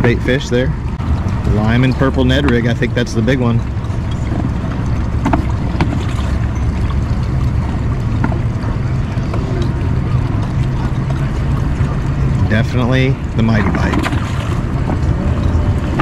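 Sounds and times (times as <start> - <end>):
outboard motor running: 0.0 - 16.0
wind buffeting microphone: 0.0 - 16.0.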